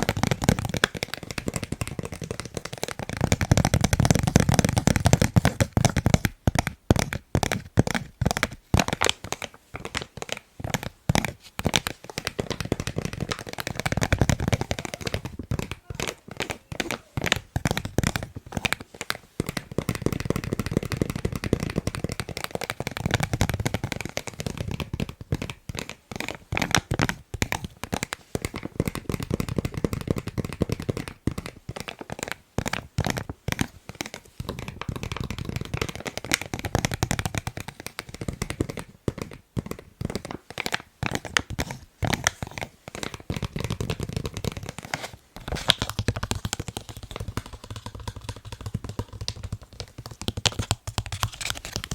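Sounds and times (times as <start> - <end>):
fingers tapping on face mask: 0.0 - 51.9.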